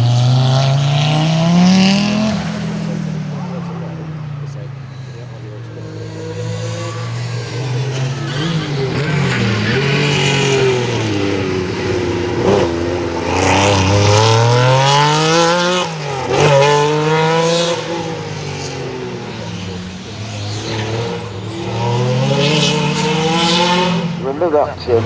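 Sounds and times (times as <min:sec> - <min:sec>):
rally car engine accelerating: 0:00.0 - 0:25.0.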